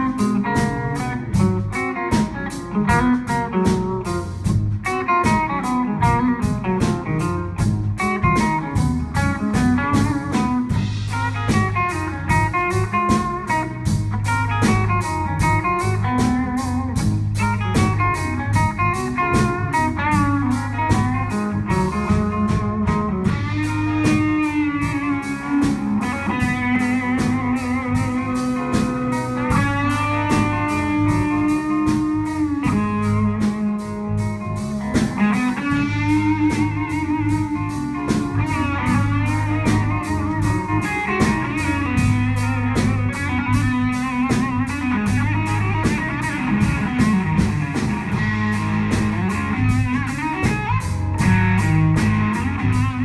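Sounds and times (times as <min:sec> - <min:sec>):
drum kit steady beat: 0:00.0 - 0:53.0
electric bass: 0:00.0 - 0:53.0
electric guitar: 0:00.0 - 0:53.0.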